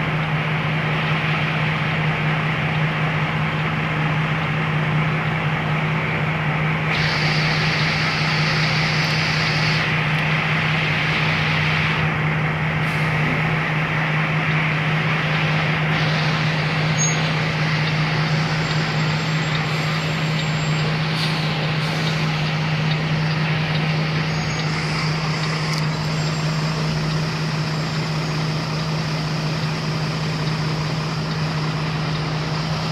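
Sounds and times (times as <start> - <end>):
truck diesel engine humming: 0.0 - 32.9.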